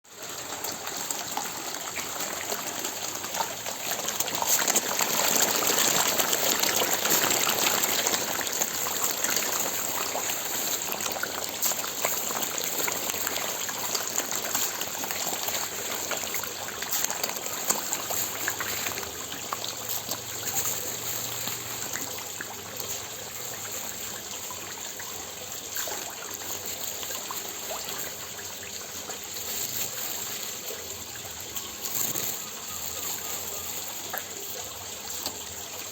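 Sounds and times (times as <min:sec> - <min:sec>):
water gushing and trickling: 0:00.1 - 0:35.9.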